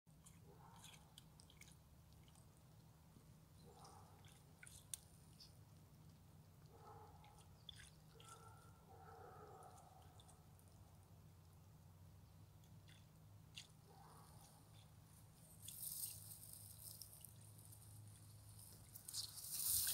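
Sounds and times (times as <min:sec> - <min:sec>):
low steady hum: 0:00.1 - 0:19.9.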